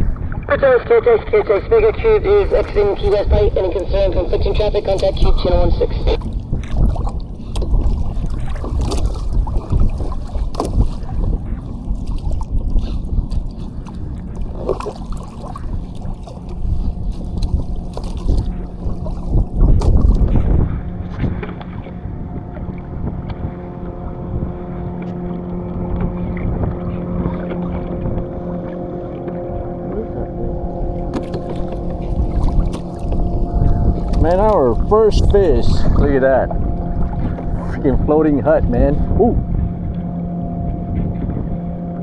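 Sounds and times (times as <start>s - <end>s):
steady multi-pitched hum: 0.0s - 42.0s
water sloshing around kayak: 0.0s - 42.0s
wind buffeting microphone: 0.0s - 42.0s.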